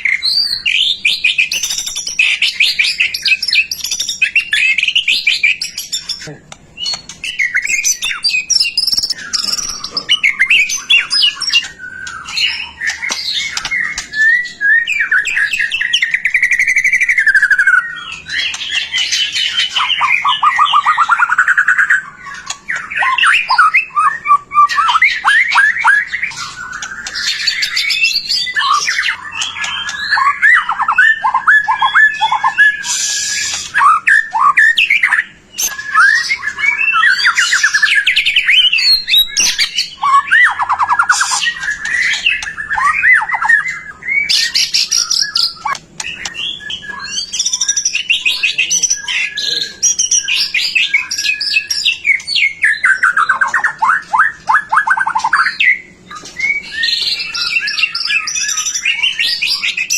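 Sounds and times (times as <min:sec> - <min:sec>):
songbird singing whistles and trills: 0:00.0 - 0:59.9.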